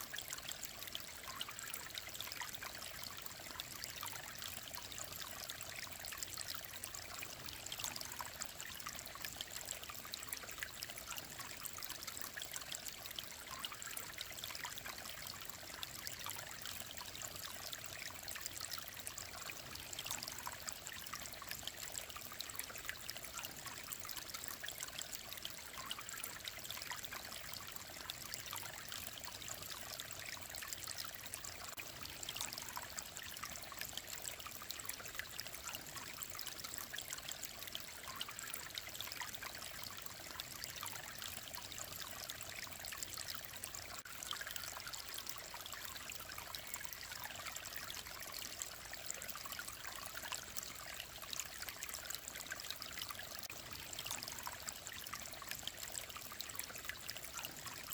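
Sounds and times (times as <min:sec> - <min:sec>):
mountain stream flowing: 0:00.0 - 0:57.9.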